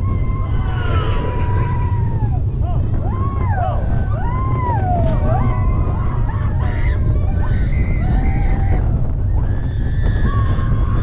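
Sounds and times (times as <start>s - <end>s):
riders whooping: 0.0s - 11.0s
roller coaster train rumbling: 0.0s - 11.0s.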